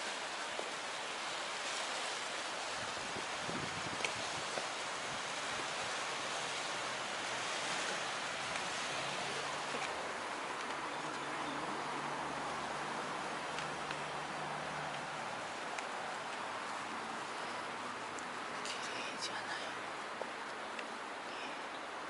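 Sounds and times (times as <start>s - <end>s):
steady outdoor rushing noise: 0.0s - 22.0s.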